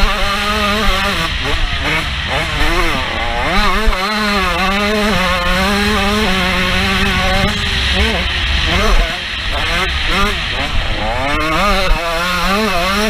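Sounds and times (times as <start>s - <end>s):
motorbike engine revving hard: 0.0s - 13.0s
wind rumble on microphone: 1.1s - 13.0s.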